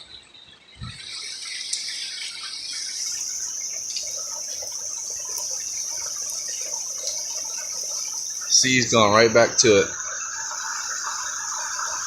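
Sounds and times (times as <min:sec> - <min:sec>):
insects droning: 0:00.0 - 0:12.0
rain falling and dripping: 0:00.7 - 0:12.0.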